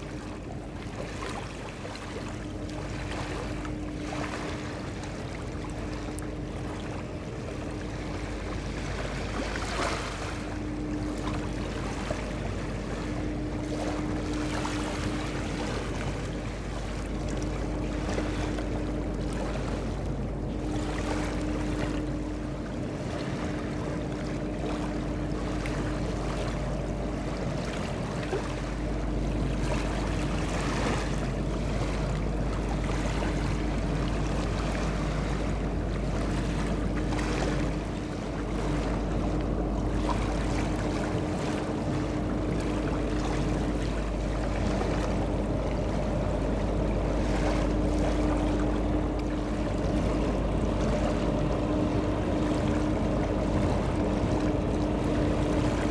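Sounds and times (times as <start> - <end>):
distant ship engine hum: 0.0 - 55.9
water washing at shore: 0.0 - 55.9.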